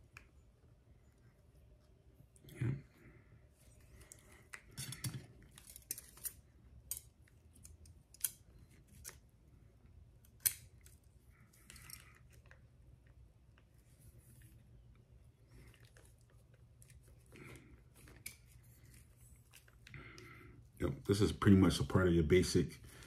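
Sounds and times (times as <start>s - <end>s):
soft handling noise: 3.4s - 23.0s.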